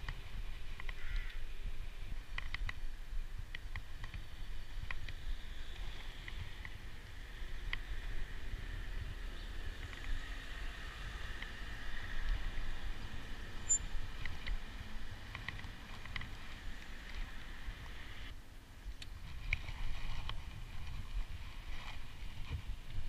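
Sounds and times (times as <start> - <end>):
bicycle rolling noise: 0.0 - 23.0
wind rumble on microphone: 0.0 - 23.0.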